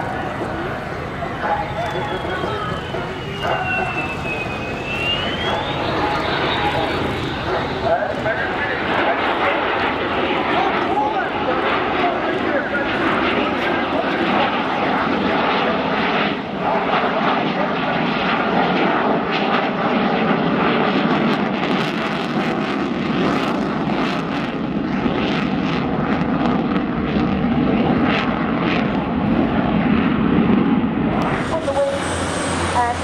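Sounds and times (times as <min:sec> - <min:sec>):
jet flying overhead: 0:00.0 - 0:33.0.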